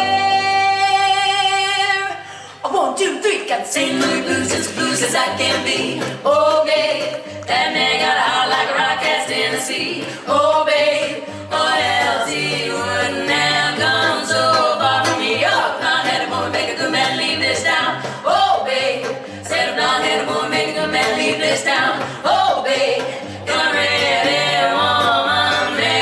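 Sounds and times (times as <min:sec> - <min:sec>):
women singing in harmony: 0:00.0 - 0:26.0
percussion: 0:03.4 - 0:26.0
bass notes: 0:03.8 - 0:26.0.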